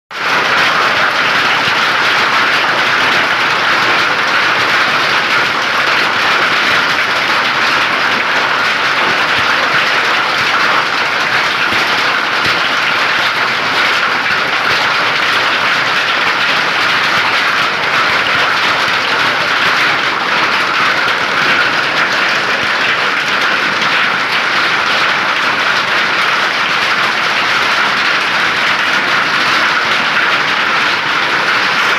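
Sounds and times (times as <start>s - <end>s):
heavy rain and hail: 0.1s - 31.9s.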